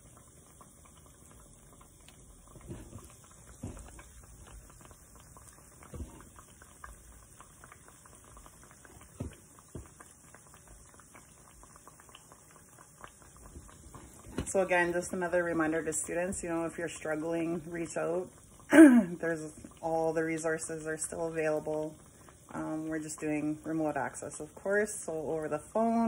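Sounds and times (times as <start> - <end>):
dough sizzling in hot oil: 0.0 - 26.0.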